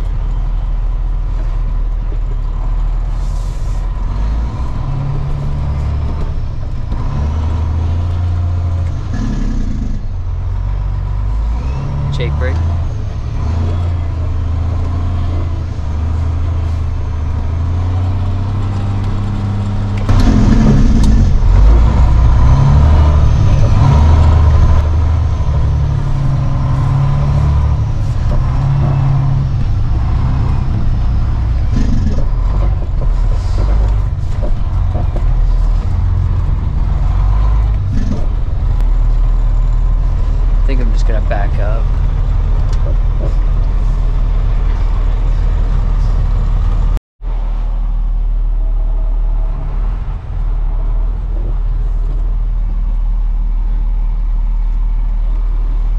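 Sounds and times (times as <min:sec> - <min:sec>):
truck diesel engine from cab: 0:00.0 - 0:55.9.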